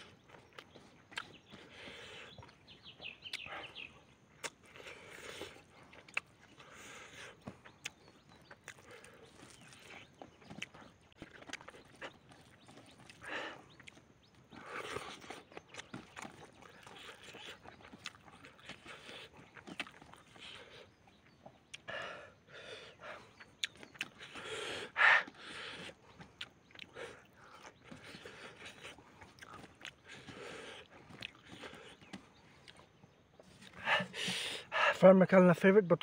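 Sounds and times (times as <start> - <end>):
man chewing and smacking lips: 0.0 - 34.8.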